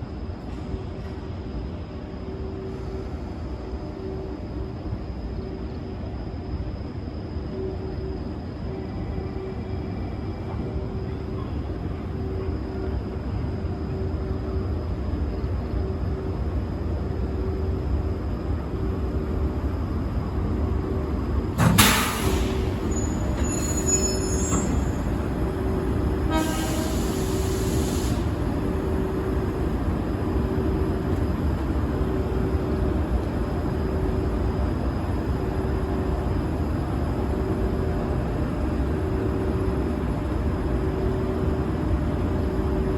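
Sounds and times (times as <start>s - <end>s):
train rumbling: 0.0s - 42.9s.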